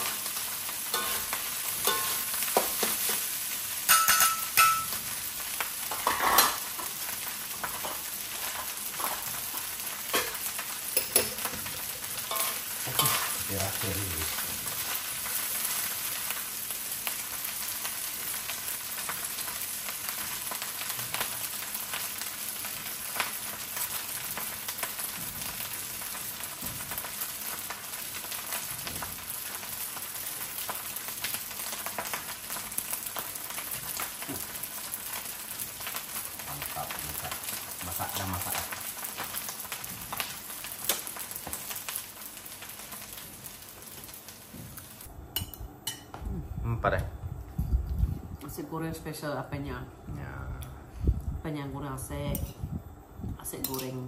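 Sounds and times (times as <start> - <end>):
rice sizzling in a hot pan: 0.0 - 46.0.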